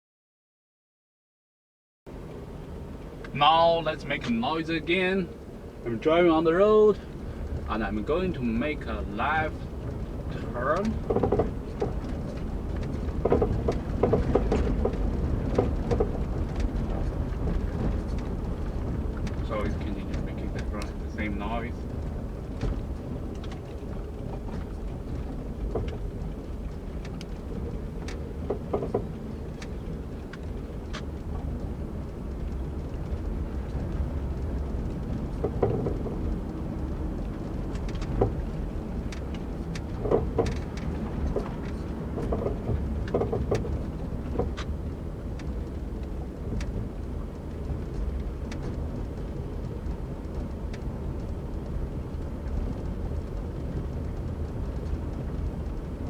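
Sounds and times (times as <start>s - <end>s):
road and tyre rumble: 2.1s - 56.0s
suspension clunks and knocks: 6.7s - 56.0s.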